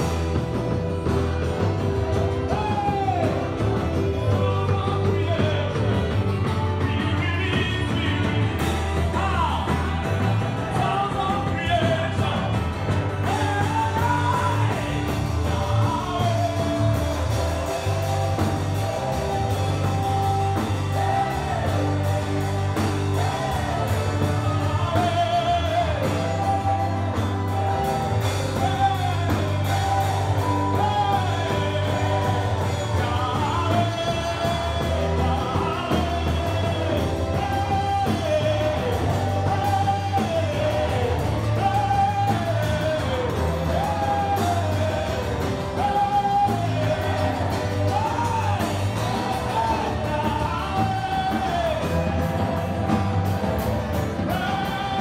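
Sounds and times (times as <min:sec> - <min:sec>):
band playing: 0:00.0 - 0:55.0
person singing gospel: 0:00.0 - 0:55.0
sustained bass notes: 0:00.0 - 0:55.0.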